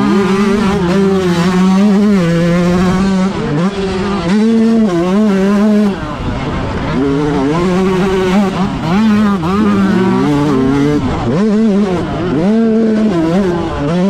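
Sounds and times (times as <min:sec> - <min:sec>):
two-stroke motorbike engine revving: 0:00.0 - 0:14.0.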